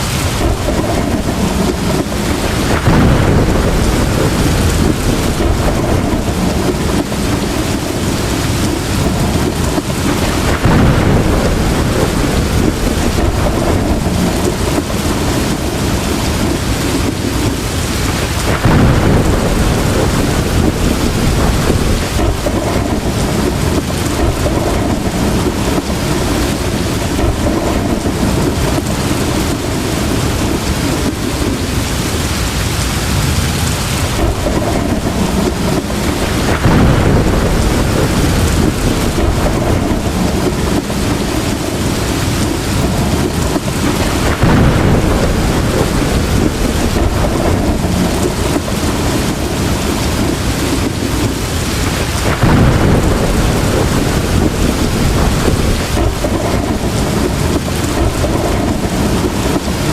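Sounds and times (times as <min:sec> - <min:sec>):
heavy rain falling: 0:00.0 - 0:59.9
rolling thunder: 0:00.0 - 0:59.9.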